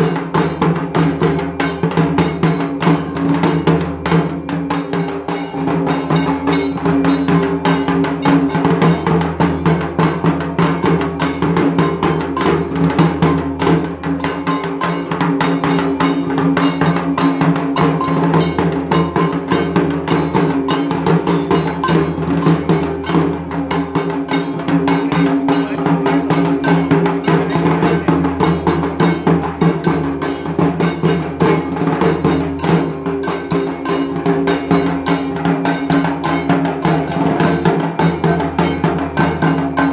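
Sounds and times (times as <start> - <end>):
drums beaten fast: 0.0 - 39.9
metallic clanging beat: 0.0 - 39.9.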